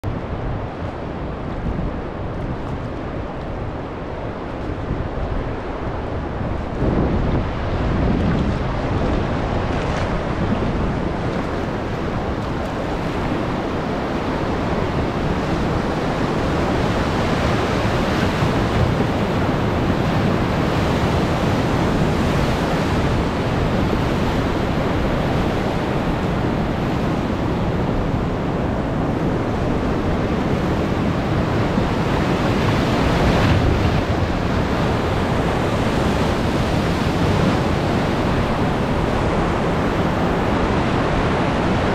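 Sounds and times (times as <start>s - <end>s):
wind buffeting microphone: 0.0s - 41.9s
river rapid rushing: 0.1s - 41.9s
wave splashing against raft: 4.2s - 41.9s.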